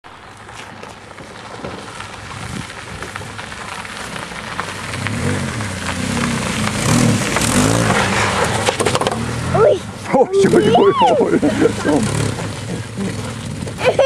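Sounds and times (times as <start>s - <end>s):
tyres crunching over gravel: 0.0s - 14.0s
car engine revving: 2.3s - 14.0s.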